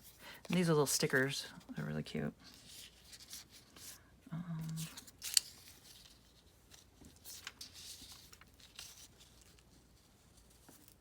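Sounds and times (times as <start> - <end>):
paper rustling and scraping: 0.0 - 4.0, 4.8 - 11.0.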